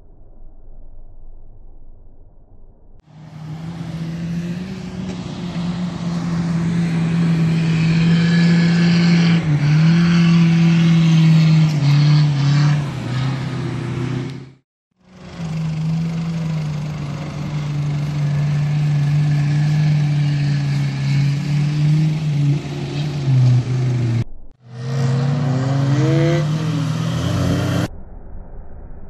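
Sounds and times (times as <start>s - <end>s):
engine revving at high revs: 3.1s - 14.6s, 15.4s - 27.9s.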